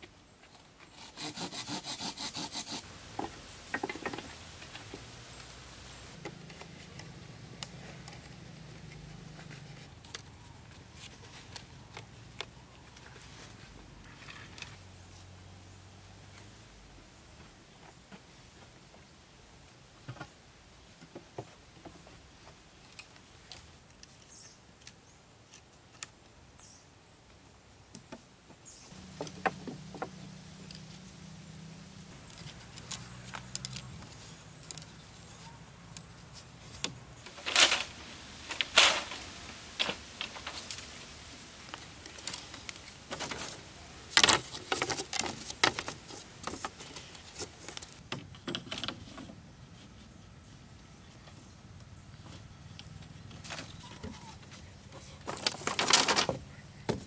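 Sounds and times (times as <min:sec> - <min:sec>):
bamboo clicks and rustles: 0:00.0 - 0:57.0.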